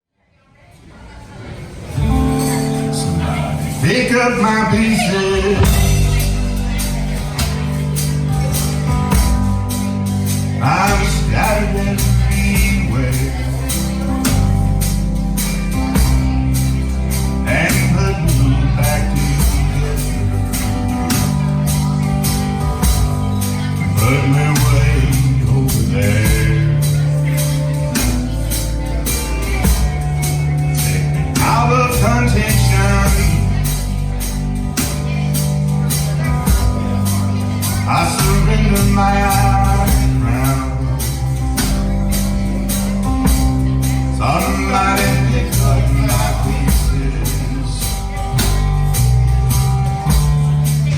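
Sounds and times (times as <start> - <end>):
band playing: 1.8 - 50.9
person singing: 2.1 - 50.9.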